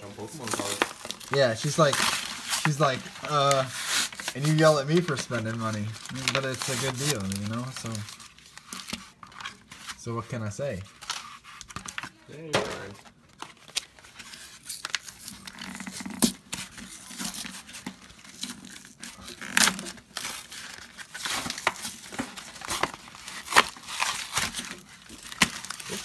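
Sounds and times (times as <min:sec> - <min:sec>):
blister packaging tearing: 0:00.2 - 0:10.0, 0:10.9 - 0:26.0.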